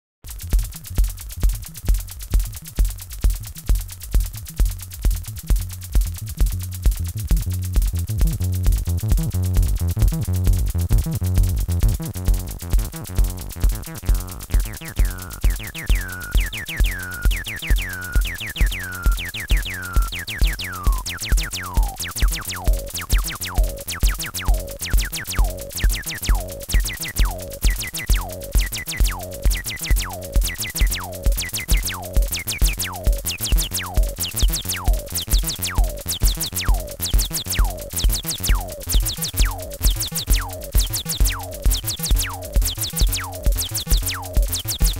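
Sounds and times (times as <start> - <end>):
bass line: 0.3 - 44.9
drum machine kick: 0.3 - 44.9.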